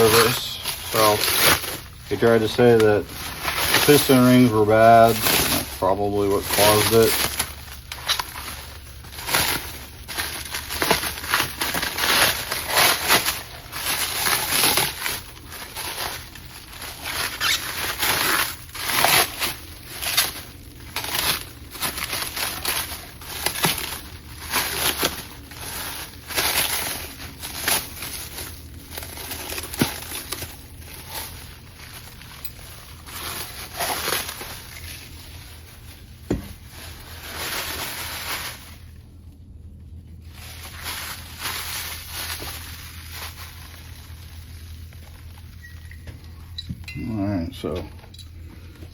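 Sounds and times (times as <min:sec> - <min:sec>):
wrapping crinkling and tearing: 0:00.0 - 0:39.3, 0:40.1 - 0:47.8.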